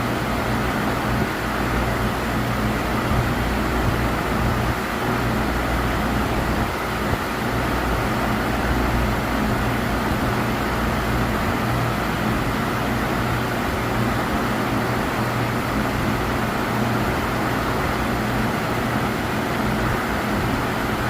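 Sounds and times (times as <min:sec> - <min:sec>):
milling machine humming and whirring: 0:00.0 - 0:21.0.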